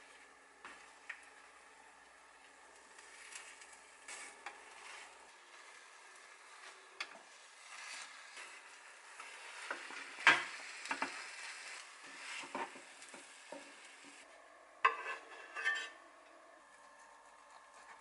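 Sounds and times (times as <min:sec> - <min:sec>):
egg sizzling in a pan: 0:00.0 - 0:16.3.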